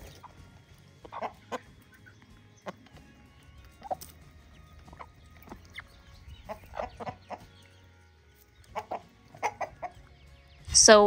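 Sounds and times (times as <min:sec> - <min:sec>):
hens clucking: 0:00.0 - 0:10.2.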